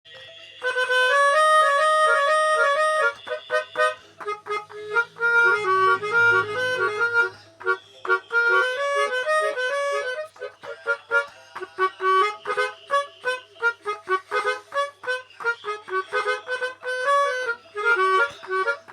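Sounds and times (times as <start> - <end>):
bus horn playing a melody: 0.6 - 18.9.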